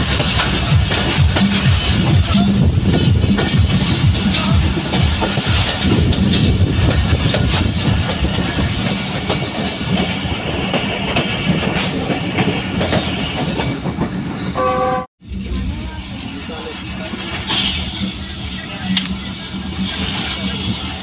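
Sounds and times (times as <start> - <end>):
train knocks and rattles: 0.0 - 21.0
train wheels rumbling: 0.0 - 21.0.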